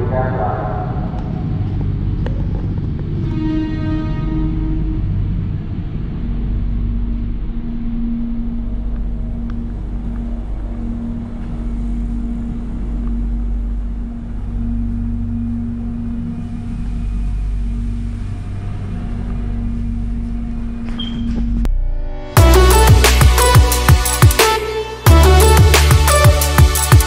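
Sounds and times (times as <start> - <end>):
train carriage rumble and hum: 0.0 - 21.8.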